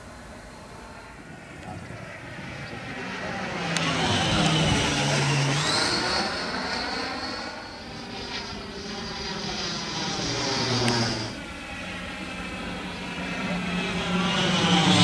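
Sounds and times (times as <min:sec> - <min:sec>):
model jet fan whining: 0:00.0 - 0:15.0.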